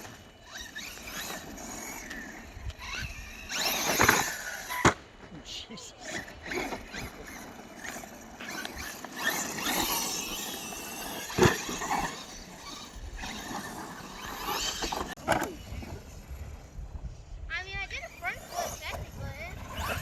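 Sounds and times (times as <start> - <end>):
toy truck electric motors whining: 0.0 - 20.0.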